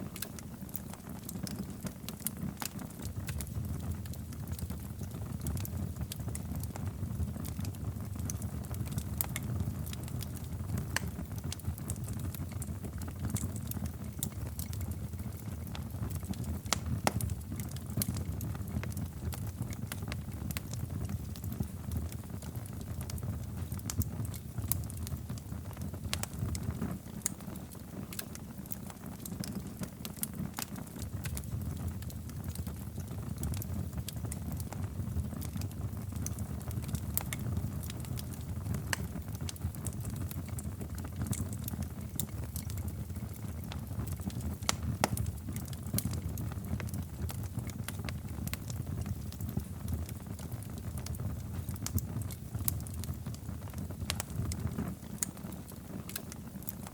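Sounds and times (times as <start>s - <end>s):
fire crackling and popping: 0.0s - 56.9s
low rumble of flames: 0.0s - 56.9s.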